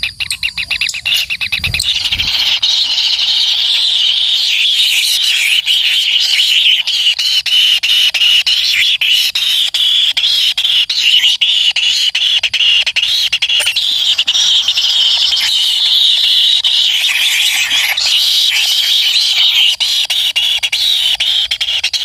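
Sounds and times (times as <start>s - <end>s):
nestlings squealing: 0.0s - 9.4s, 10.0s - 21.9s.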